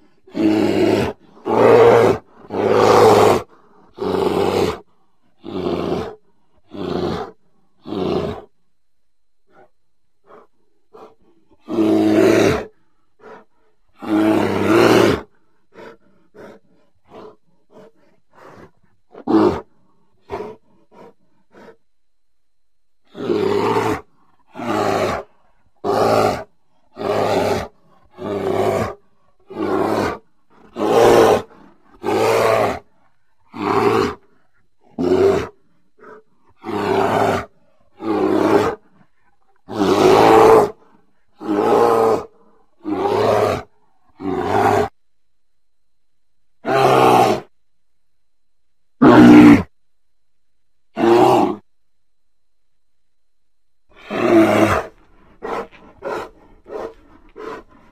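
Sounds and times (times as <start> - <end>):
bear growling and grunting: 0.0 - 8.6, 9.5 - 21.8, 23.0 - 45.0, 46.6 - 47.5, 49.0 - 49.7, 50.9 - 51.7, 53.9 - 57.9.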